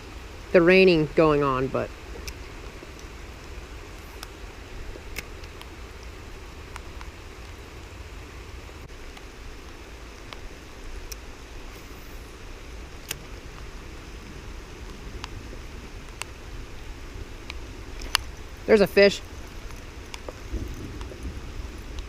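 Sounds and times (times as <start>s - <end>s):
heavy rain falling: 0.0s - 22.0s
raindrops ticking close by: 0.0s - 22.0s.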